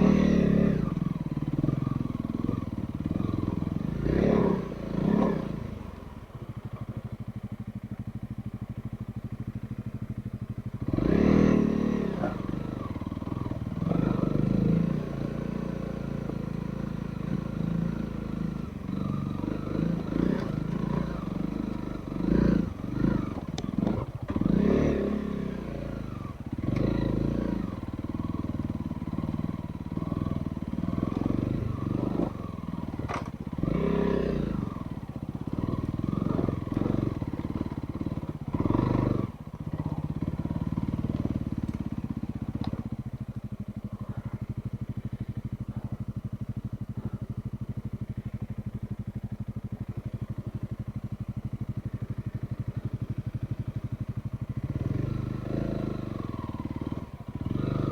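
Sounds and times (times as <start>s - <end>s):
motorcycle engine revving and idling: 0.0s - 57.9s.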